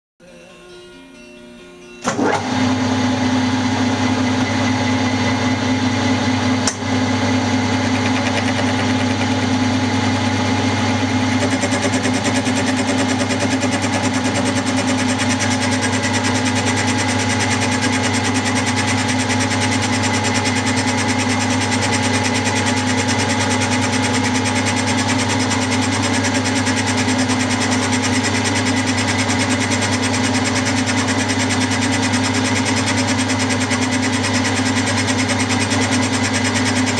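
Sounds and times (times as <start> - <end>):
milling machine cutting metal: 2.0 - 36.9.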